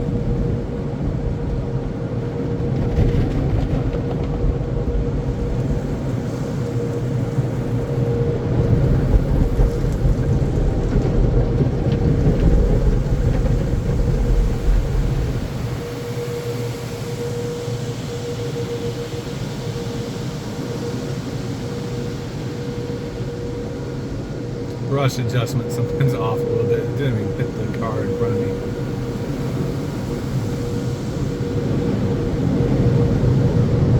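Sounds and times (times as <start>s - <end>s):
car wash machinery running: 0.0s - 33.9s.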